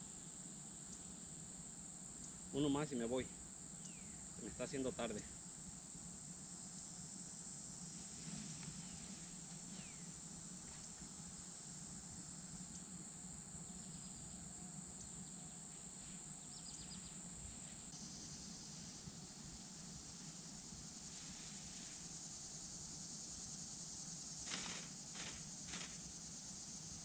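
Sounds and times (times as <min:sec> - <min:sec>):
high-pitched insect buzz: 0:03.7 - 0:27.0.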